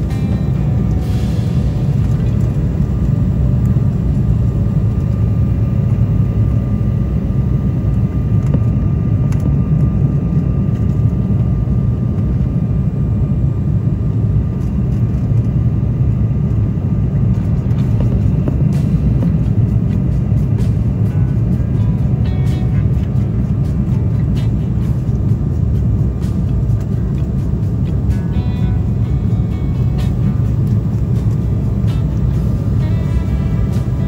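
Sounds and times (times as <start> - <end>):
airliner engine rumble: 0.0 - 34.0.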